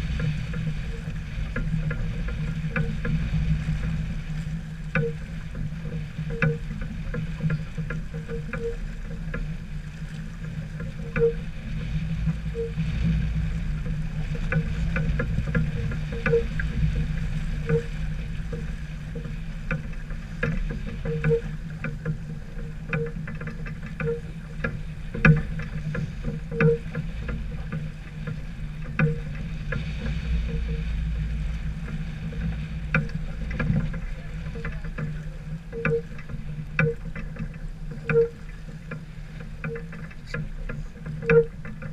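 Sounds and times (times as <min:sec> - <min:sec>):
low rumble: 0:00.0 - 0:41.6
light clicks and knocks: 0:00.1 - 0:41.9.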